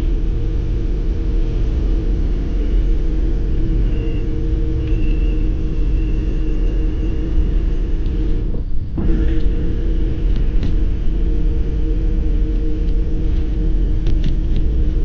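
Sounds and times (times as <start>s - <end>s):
steady high whine: 0.0s - 15.0s
wind rumbling on microphone: 0.0s - 15.0s.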